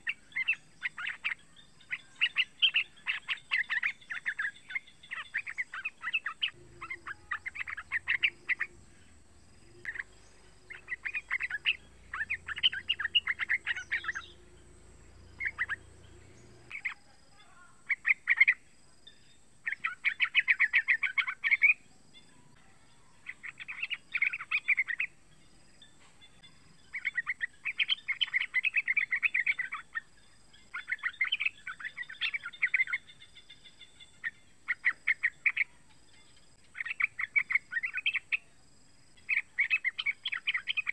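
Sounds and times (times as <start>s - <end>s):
bird singing rapid chattering notes: 0.0s - 40.9s.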